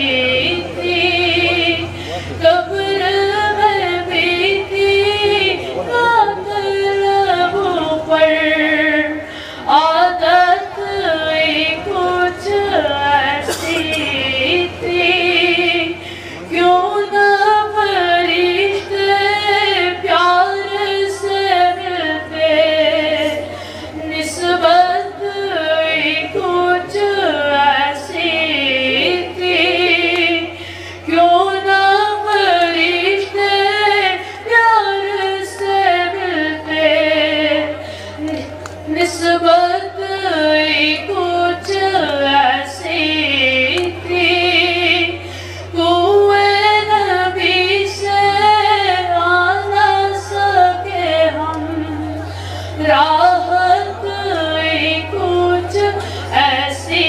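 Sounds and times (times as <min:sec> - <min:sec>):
boy singing into microphone: 0:00.0 - 0:57.0
sound system hum: 0:00.0 - 0:57.0.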